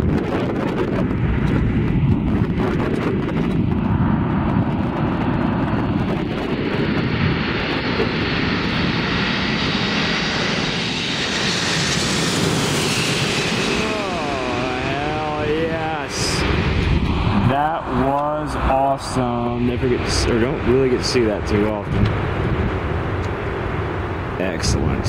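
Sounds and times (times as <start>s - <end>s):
high-pitched jet whine: 0.0s - 25.0s
jet airliner engines: 0.0s - 25.0s
wind buffeting microphone: 0.0s - 25.0s.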